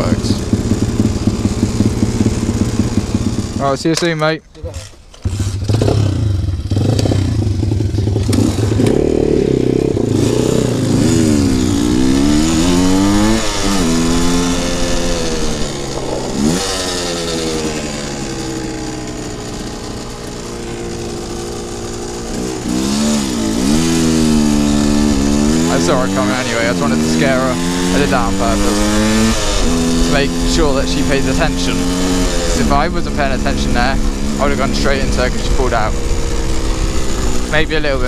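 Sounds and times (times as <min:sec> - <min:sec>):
motorbike engine accelerating: 0:00.0 - 0:38.0.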